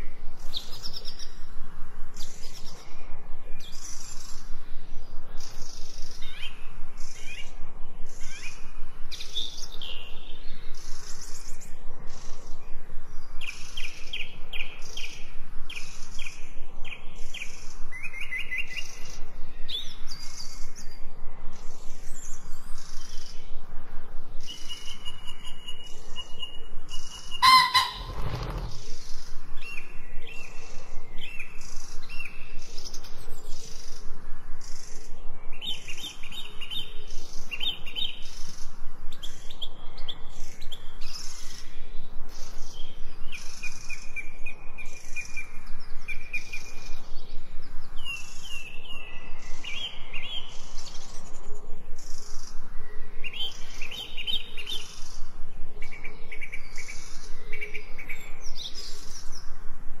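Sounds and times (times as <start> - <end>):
songbirds chirping and trilling: 0.0 - 60.0.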